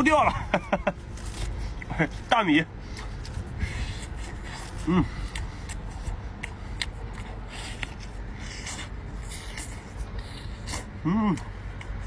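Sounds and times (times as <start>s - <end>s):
crackly rustles while chewing: 0.4s - 12.0s.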